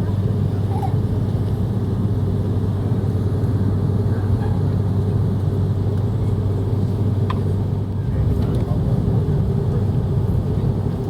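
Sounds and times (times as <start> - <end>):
aircraft cabin engine drone: 0.0 - 11.0.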